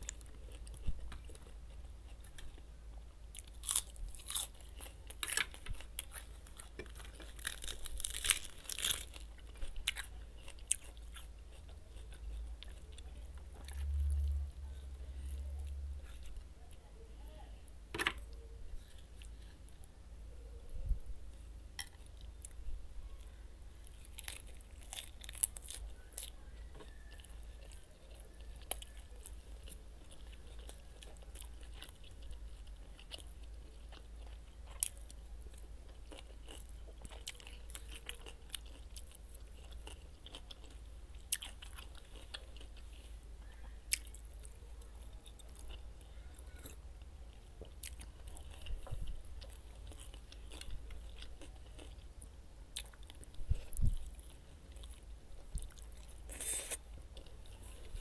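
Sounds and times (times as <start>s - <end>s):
chewing crunchy salad: 0.0s - 16.8s, 21.3s - 22.7s, 23.8s - 58.0s.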